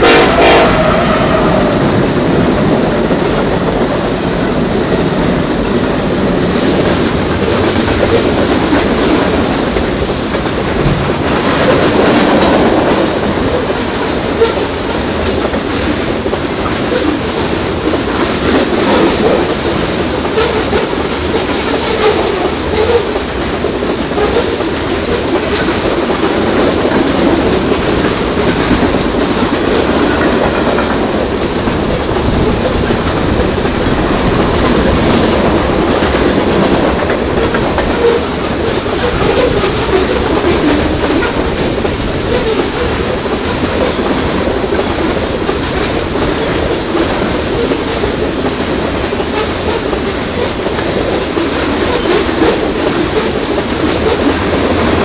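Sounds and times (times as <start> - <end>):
clickety-clack over rail joints: 0.0 - 55.0
steel wheels rumbling on rail: 0.0 - 55.0.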